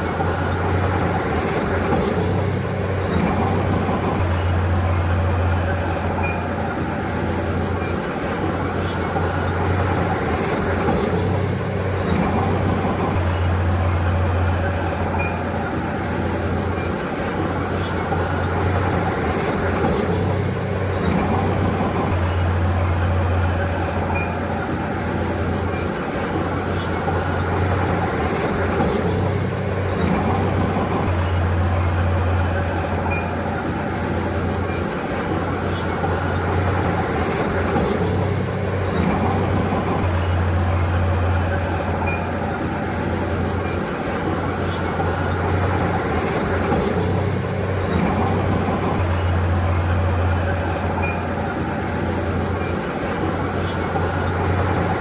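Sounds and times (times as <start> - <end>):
heavy machinery engine hum: 0.0 - 55.0.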